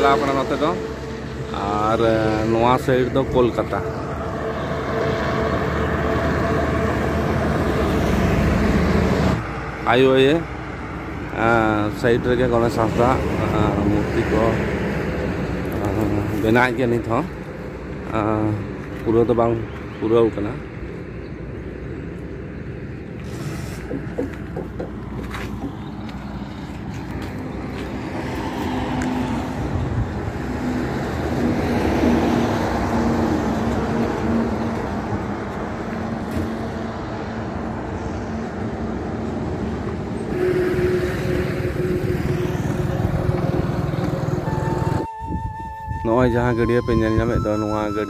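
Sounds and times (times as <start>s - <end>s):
highway traffic passing: 0.0s - 48.0s.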